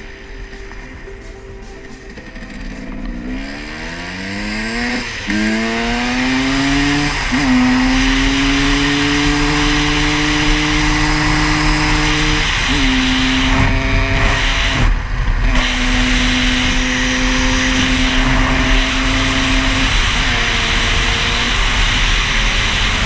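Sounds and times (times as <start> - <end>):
dirt bike engine accelerating: 1.7 - 23.0.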